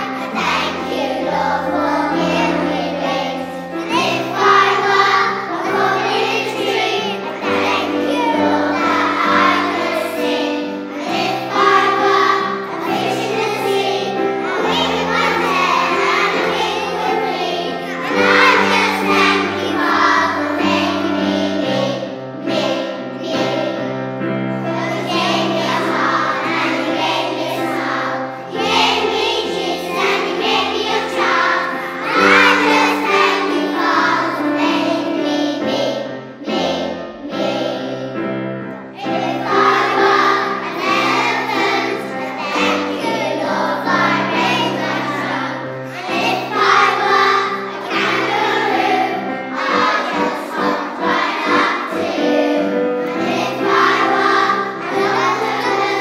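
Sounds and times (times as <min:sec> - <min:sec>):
children singing: 0:00.0 - 0:56.0
musical accompaniment: 0:00.0 - 0:56.0.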